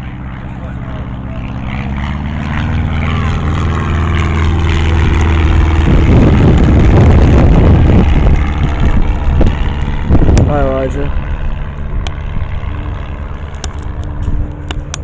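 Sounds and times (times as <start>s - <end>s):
propeller aircraft engine: 0.0s - 15.0s.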